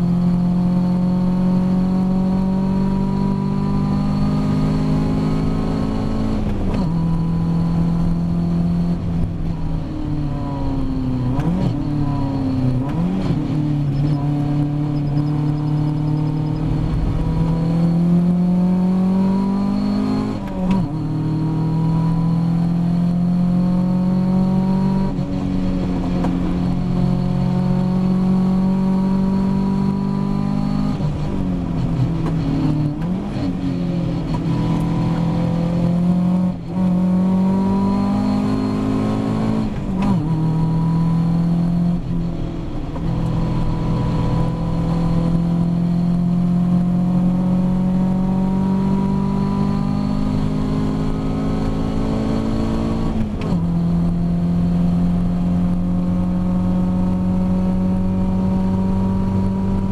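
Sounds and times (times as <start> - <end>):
race car engine under load: 0.1 - 59.9.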